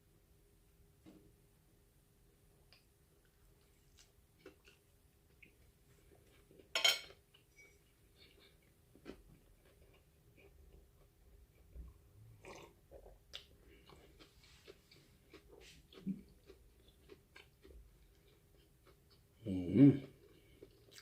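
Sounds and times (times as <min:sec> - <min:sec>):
faint chewing of food: 0:02.6 - 0:21.0.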